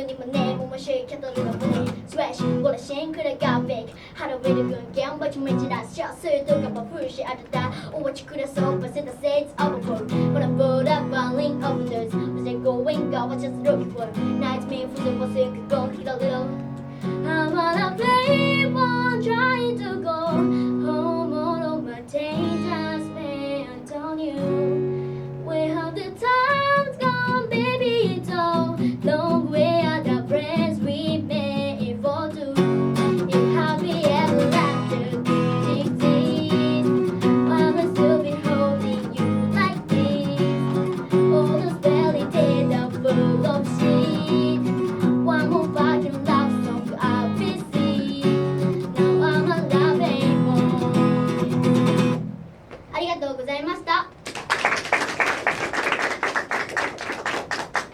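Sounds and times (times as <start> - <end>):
woman singing with vibrato: 0.0 - 52.2
acoustic guitar strumming: 0.0 - 52.7.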